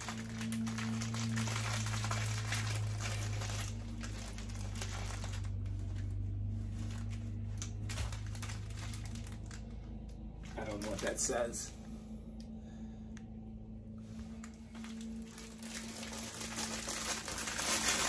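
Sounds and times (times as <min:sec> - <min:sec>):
plastic bag crinkling: 0:00.0 - 0:11.4, 0:14.4 - 0:18.0
low hum: 0:00.0 - 0:18.0.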